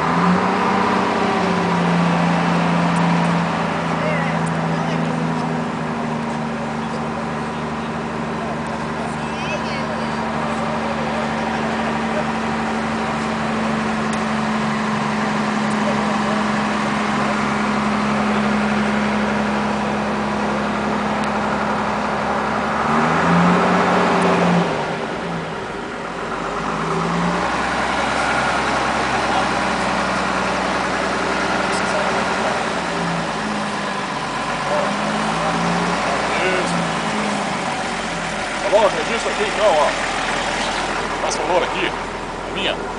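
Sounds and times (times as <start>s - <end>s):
motor engine running: 0.0s - 42.9s.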